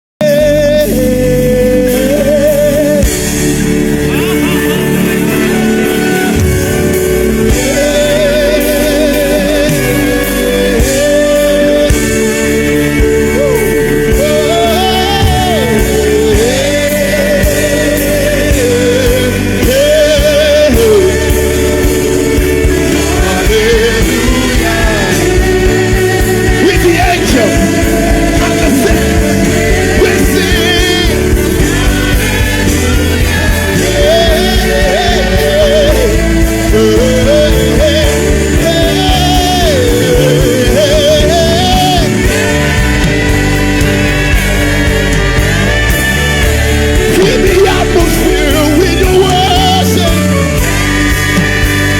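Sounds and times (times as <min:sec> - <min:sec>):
person singing gospel song: 0:00.0 - 0:51.9
instrumental accompaniment with beat: 0:00.2 - 0:51.9.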